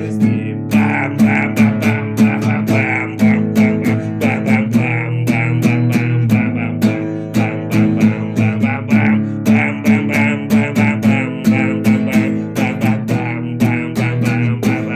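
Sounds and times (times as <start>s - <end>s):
guitar strumming chords: 0.0s - 14.9s.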